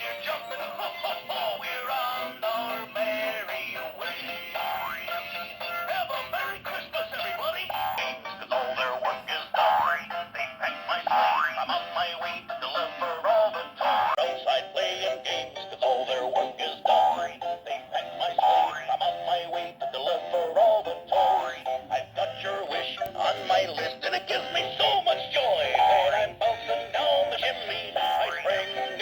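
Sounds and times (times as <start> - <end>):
toy singing through small speaker: 0.0 - 29.0.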